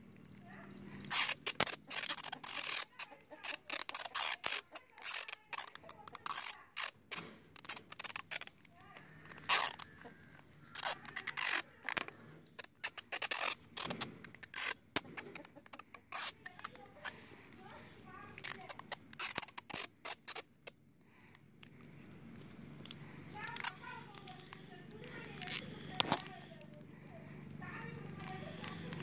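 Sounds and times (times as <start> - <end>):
tape ripping off roll: 0.0 - 29.0
plastic wrap crinkling: 0.1 - 29.0.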